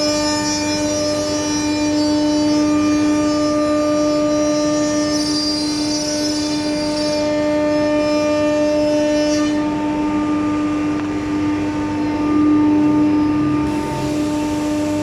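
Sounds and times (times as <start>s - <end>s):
router spindle whining: 0.0s - 15.0s.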